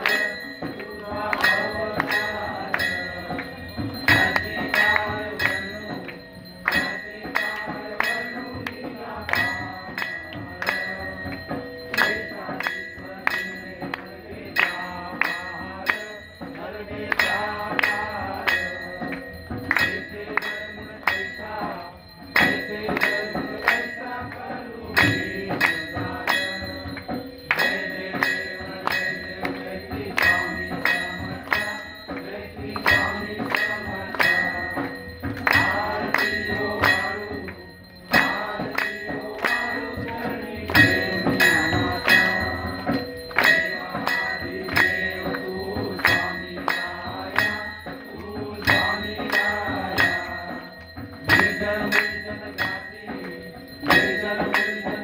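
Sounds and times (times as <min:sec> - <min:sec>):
brass bell ringing: 0:00.0 - 0:55.0
group of voices singing: 0:00.0 - 0:55.0.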